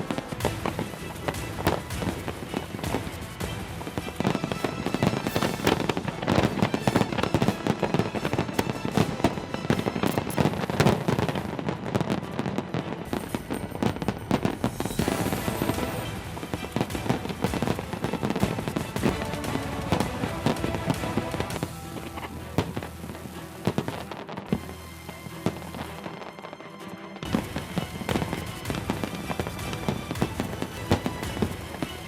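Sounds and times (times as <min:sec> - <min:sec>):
fireworks bursting and crackling: 0:00.0 - 0:32.0
music: 0:00.0 - 0:32.0.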